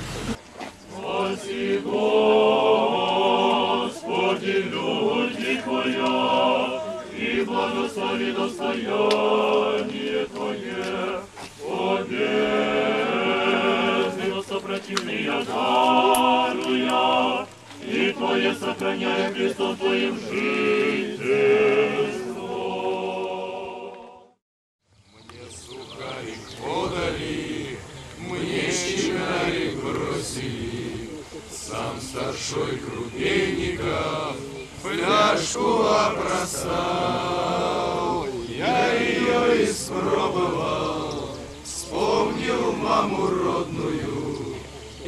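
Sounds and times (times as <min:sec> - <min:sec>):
voices singing a liturgical chant: 0:00.0 - 0:24.4, 0:25.2 - 0:45.0.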